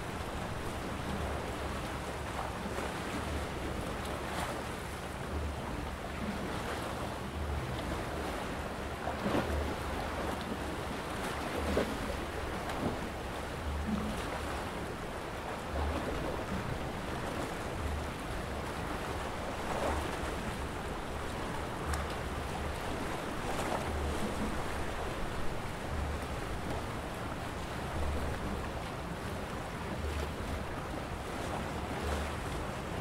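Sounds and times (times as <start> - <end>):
soft water splashes: 0.0 - 33.0.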